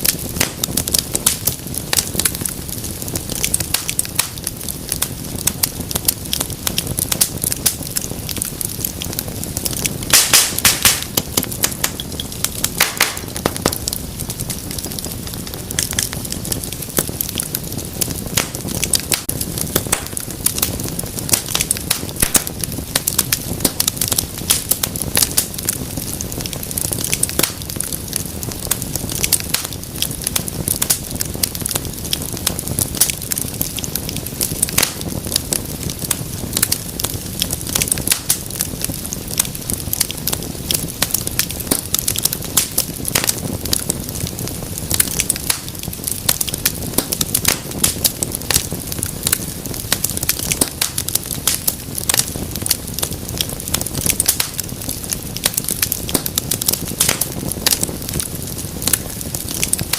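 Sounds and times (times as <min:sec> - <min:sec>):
low rumble of burning: 0:00.0 - 0:59.9
wood fire crackling: 0:00.0 - 0:59.9
sharp pops and snaps: 0:00.1 - 0:02.3, 0:03.4 - 0:59.9.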